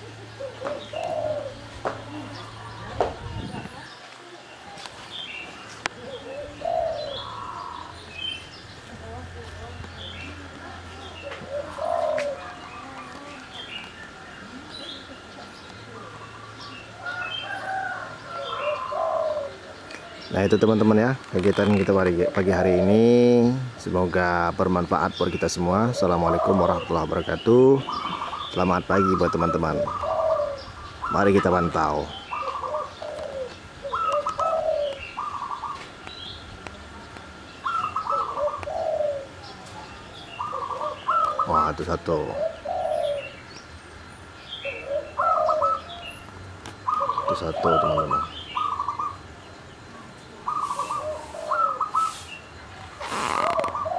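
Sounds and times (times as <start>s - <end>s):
doves cooing: 0.0s - 53.9s
small birds chirping: 0.0s - 53.9s.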